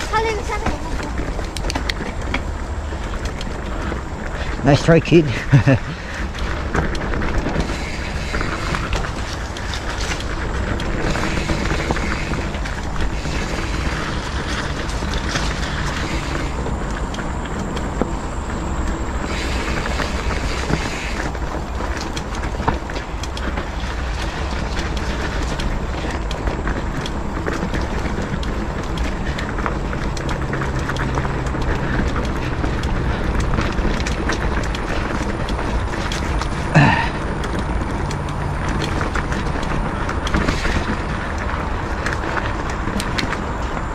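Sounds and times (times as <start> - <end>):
bike rattling and knocking: 0.0 - 43.9.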